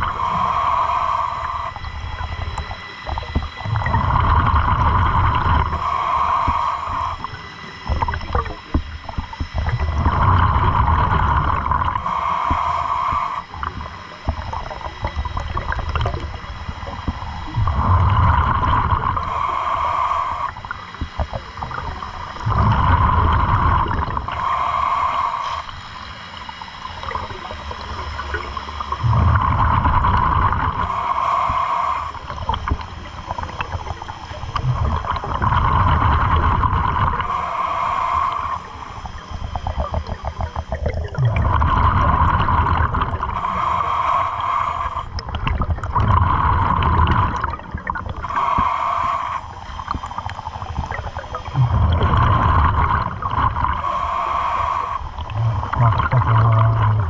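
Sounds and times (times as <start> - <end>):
diver breathing through regulator: 0.0 - 8.0, 9.6 - 57.0
exhaled bubbles bursting: 0.0 - 19.5, 20.4 - 24.6, 26.8 - 31.0, 31.6 - 37.5, 38.3 - 43.7, 44.7 - 48.7, 49.3 - 57.0.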